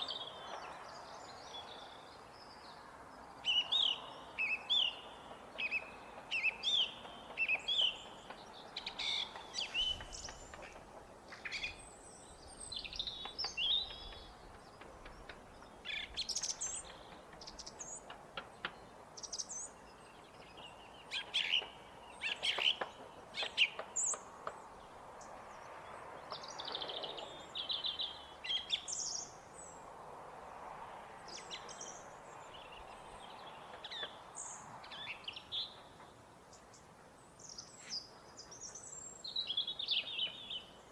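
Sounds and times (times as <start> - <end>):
song thrush singing: 0.0 - 29.8, 31.2 - 40.9.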